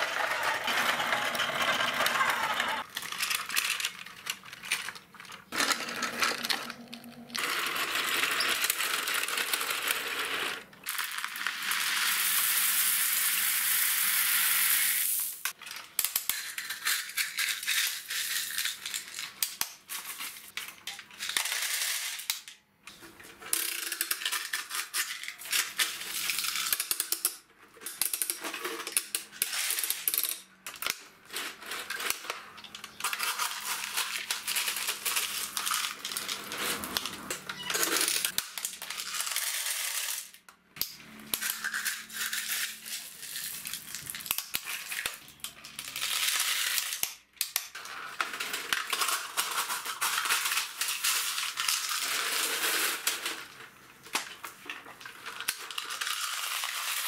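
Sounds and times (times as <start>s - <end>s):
clicks of stones and toy buckets: 0.0s - 13.0s, 15.0s - 57.0s.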